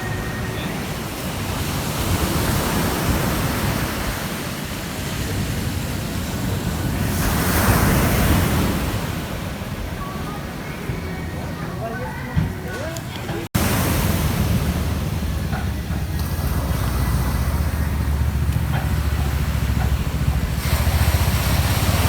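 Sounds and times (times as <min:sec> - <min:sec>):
ocean waves breaking on beach: 0:00.0 - 0:22.0.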